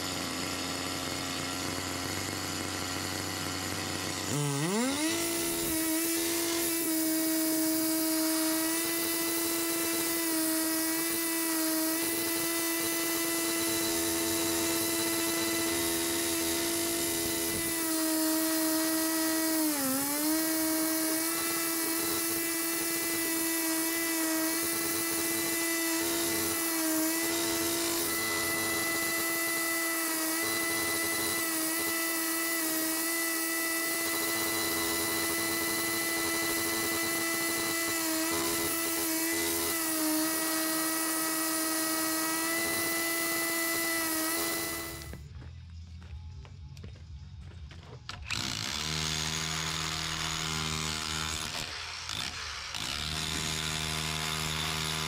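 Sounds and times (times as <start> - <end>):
disc cutter cutting concrete: 0.0 - 45.2, 48.2 - 55.0.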